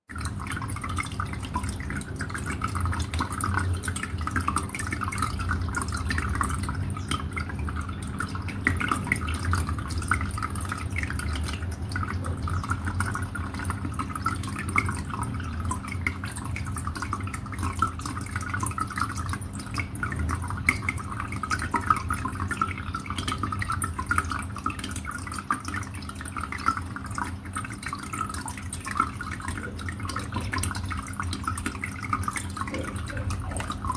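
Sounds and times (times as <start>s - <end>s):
water trickling and dripping: 0.0s - 33.9s.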